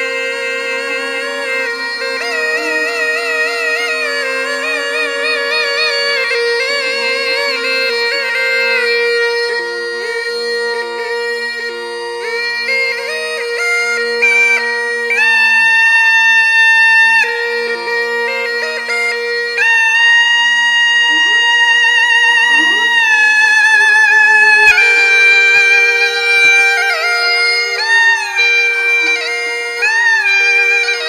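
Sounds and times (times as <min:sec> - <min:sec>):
gourd pipe melody with drone: 0:00.0 - 0:15.8, 0:17.6 - 0:31.0.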